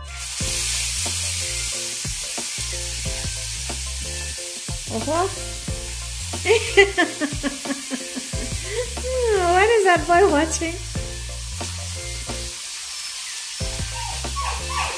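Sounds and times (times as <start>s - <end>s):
background music with bass: 0.0s - 12.6s, 13.6s - 14.9s
oil sizzling in a frying pan: 0.0s - 14.9s.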